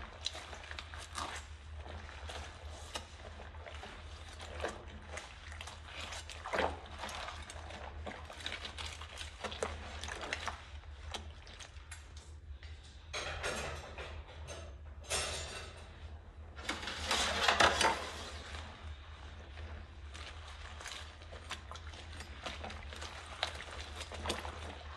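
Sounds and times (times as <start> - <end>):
water sloshing: 0.0 - 12.6, 16.5 - 24.9.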